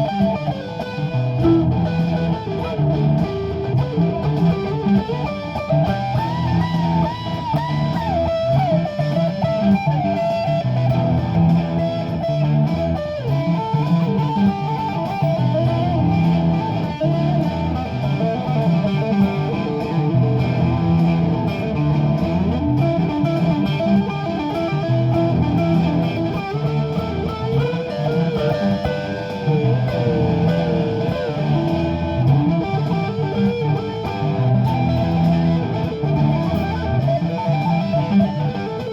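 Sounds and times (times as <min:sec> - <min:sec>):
electric guitar lead: 0:00.0 - 0:38.9
looped bass line: 0:00.0 - 0:38.9.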